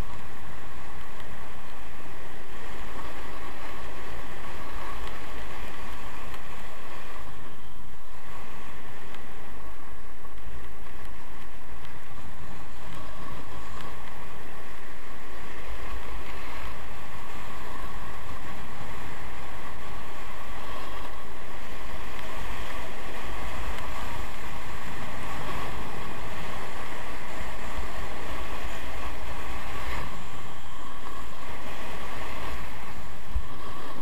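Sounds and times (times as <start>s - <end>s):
skis hissing over snow: 0.0s - 34.0s
wind buffeting microphone: 0.0s - 34.0s.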